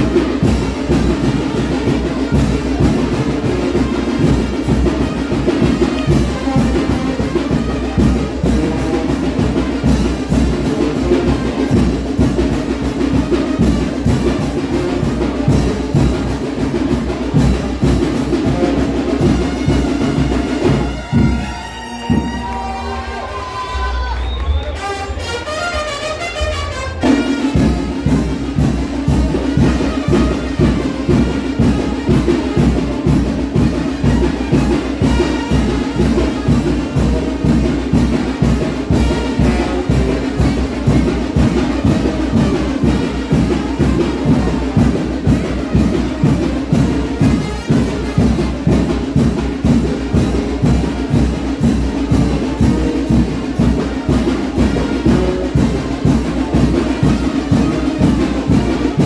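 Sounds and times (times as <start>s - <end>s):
driving drum beat: 0.0s - 23.1s, 27.0s - 59.0s
brass band playing: 0.0s - 59.0s.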